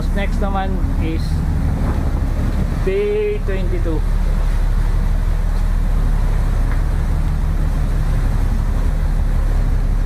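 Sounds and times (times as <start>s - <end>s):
ship machinery drone: 0.0s - 10.0s.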